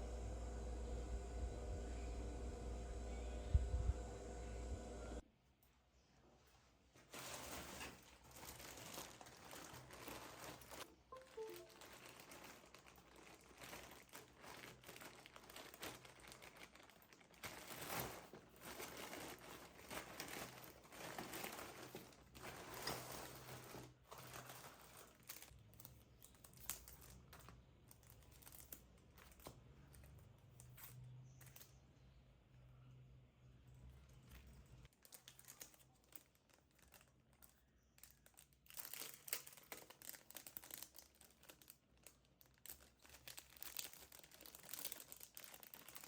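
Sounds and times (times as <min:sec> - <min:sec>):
wrapping material crinkling: 0:06.4 - 0:31.8, 0:33.7 - 0:46.0.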